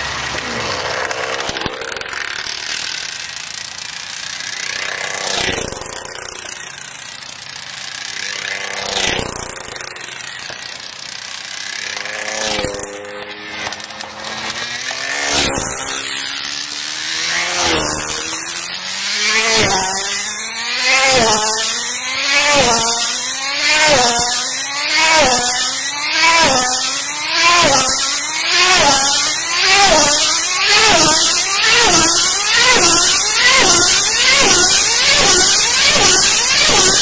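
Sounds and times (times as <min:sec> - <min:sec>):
model car motor passing: 0:00.0 - 0:37.0.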